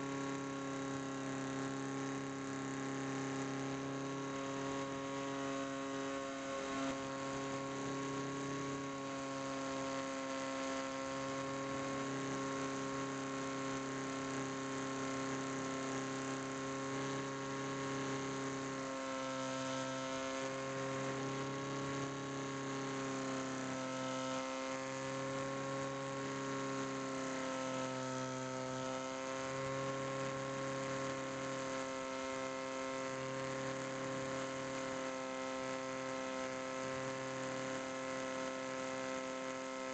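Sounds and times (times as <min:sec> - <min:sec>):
model plane electric motor buzzing: 0:00.0 - 0:39.9.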